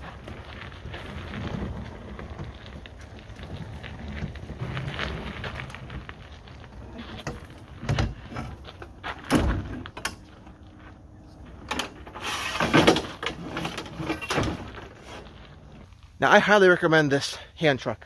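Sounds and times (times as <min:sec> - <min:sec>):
scraping on gravel: 0:00.0 - 0:17.0.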